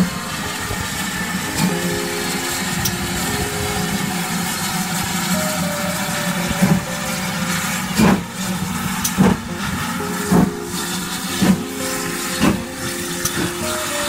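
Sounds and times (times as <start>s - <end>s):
steady hiss of steam: 0.0s - 14.0s
steam locomotive exhaust chuffs: 0.0s - 14.0s.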